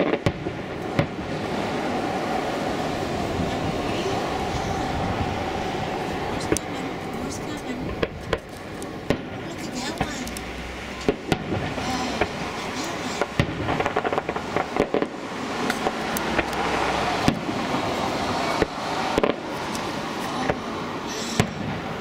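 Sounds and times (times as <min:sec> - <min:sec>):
fireworks bursting with bangs: 0:00.0 - 0:22.0
fireworks crackling: 0:00.0 - 0:22.0.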